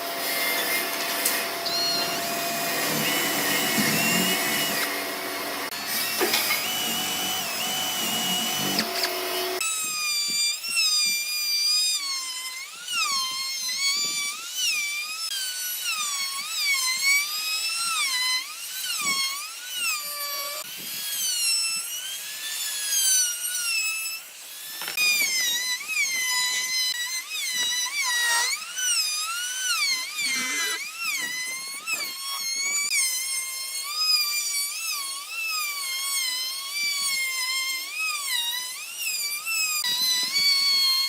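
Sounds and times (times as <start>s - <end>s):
power tool whining into wood: 0.0s - 41.0s.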